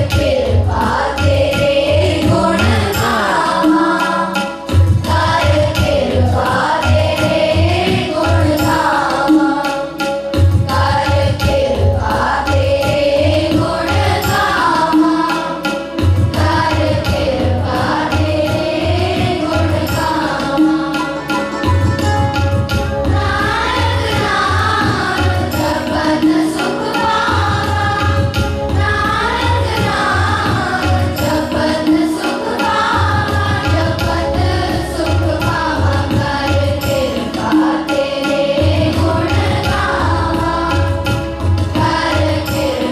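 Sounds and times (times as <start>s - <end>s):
children singing a hymn: 0.0s - 9.9s, 10.7s - 21.5s, 23.1s - 42.9s
tabla beat: 0.0s - 42.9s.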